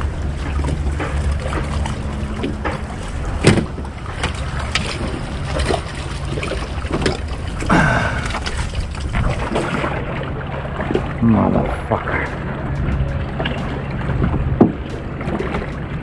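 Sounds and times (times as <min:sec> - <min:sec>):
moving water: 0:00.0 - 0:16.0
wind rumble on microphone: 0:00.0 - 0:16.0.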